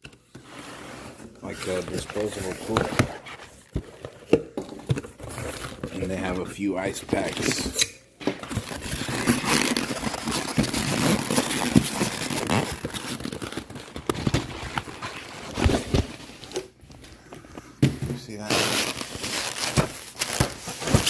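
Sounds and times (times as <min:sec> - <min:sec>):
packaging rustling and crinkling: 0:00.1 - 0:17.2, 0:18.2 - 0:21.0.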